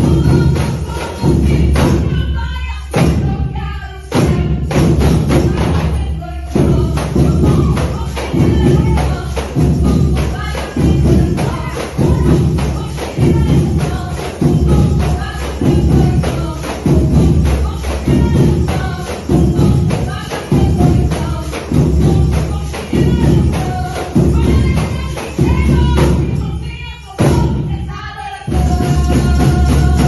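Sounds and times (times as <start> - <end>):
song with singing: 0.0 - 30.0
tambourines struck in rhythm: 0.0 - 30.0.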